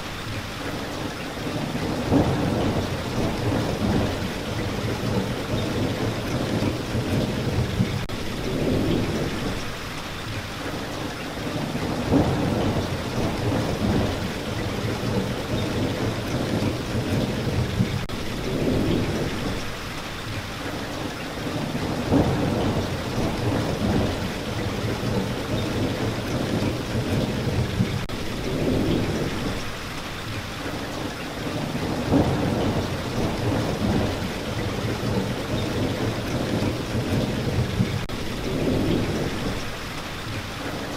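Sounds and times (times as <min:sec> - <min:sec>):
steady rain: 0:00.0 - 0:40.9
thunder rumbling: 0:01.5 - 0:09.8, 0:11.5 - 0:19.8, 0:21.5 - 0:29.8, 0:31.5 - 0:39.8.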